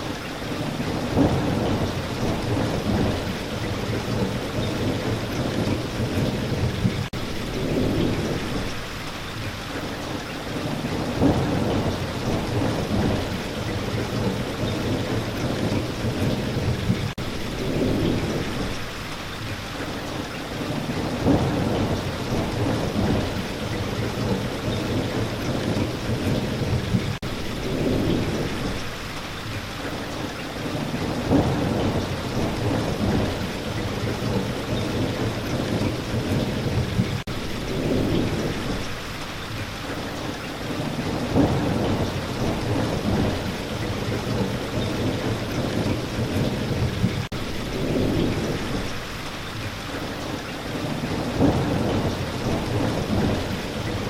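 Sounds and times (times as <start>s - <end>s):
heavy rain: 0.0s - 54.0s
thunder rumbling: 0.5s - 8.8s, 10.4s - 19.0s, 20.4s - 29.1s, 30.7s - 39.6s, 40.2s - 54.0s.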